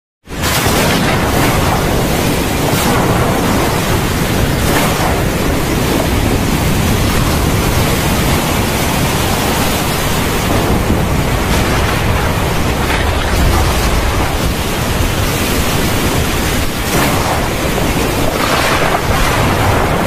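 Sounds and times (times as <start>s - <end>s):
heavy rain pouring: 0.2s - 20.0s
thunder rumbling: 0.3s - 20.0s.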